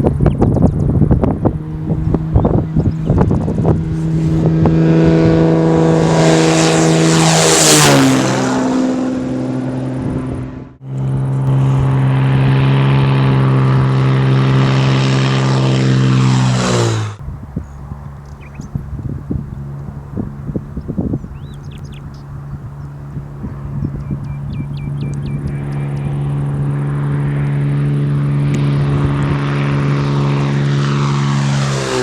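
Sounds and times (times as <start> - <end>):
propeller plane passing by: 0.0 - 32.0.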